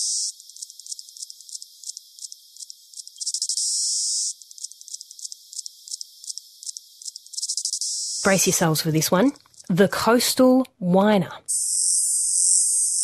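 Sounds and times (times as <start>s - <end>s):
cicada buzz: 0.0s - 8.8s, 9.4s - 9.7s, 11.5s - 13.0s
cicada ticking song: 0.0s - 9.7s, 11.5s - 13.0s.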